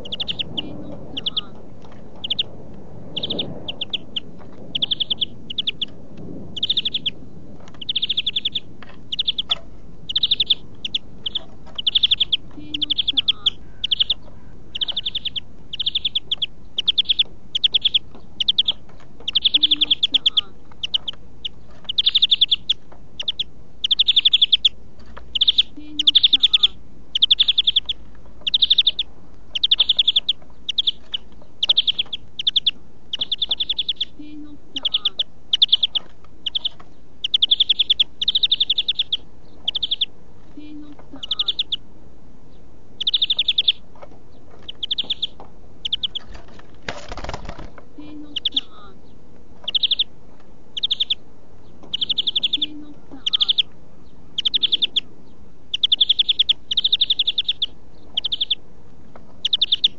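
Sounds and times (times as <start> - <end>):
finch singing trilled notes: 0.0 - 2.5, 3.1 - 6.0, 6.6 - 41.9, 42.5 - 59.9.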